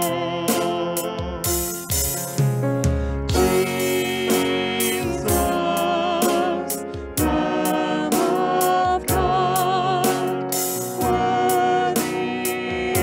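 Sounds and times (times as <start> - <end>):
person singing with vibrato: 0.0 - 2.4, 3.3 - 13.0
instrumental accompaniment with beat: 0.0 - 13.0.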